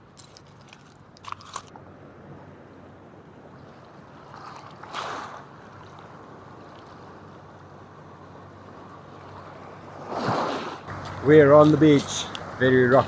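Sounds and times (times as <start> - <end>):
wind: 0.0 - 13.0
surf on rocky shore: 1.5 - 13.0.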